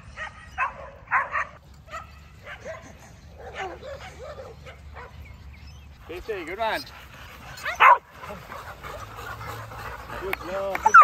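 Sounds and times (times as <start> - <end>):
dogs yipping and whining: 0.0 - 11.0
dogs barking: 0.1 - 5.4, 6.1 - 11.0.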